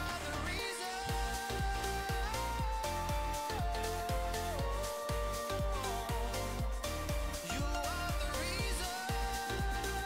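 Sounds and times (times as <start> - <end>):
held synth melody: 0.0 - 10.0
deep kick drum beat: 1.1 - 9.9.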